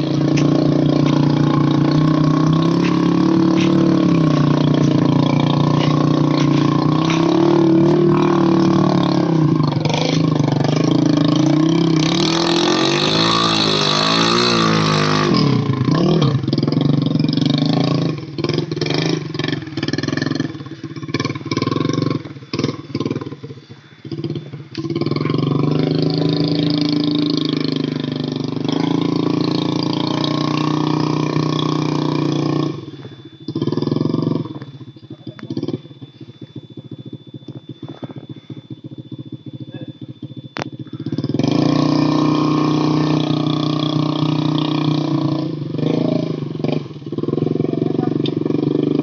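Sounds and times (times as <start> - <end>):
motorcycle engine revving under load: 0.0 - 49.0.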